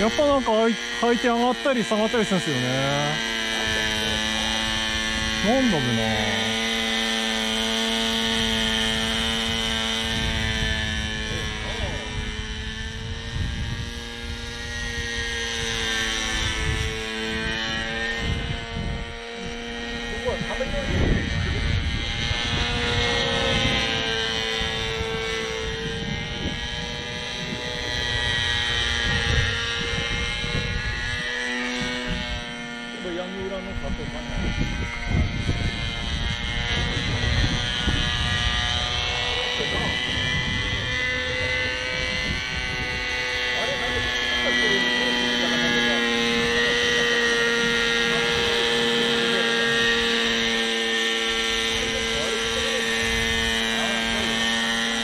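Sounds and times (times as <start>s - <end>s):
model helicopter engine droning: 0.0s - 55.0s
wind buffeting microphone: 0.0s - 55.0s.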